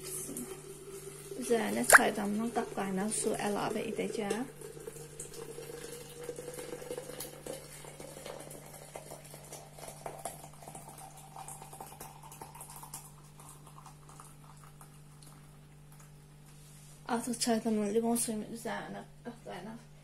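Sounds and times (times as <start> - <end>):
water pouring into glass jug: 0.0 - 16.2.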